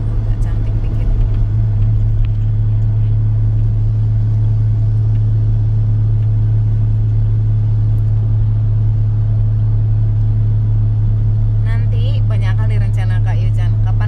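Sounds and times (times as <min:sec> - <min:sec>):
car engine drone: 0:00.0 - 0:14.0
road noise: 0:00.0 - 0:14.0.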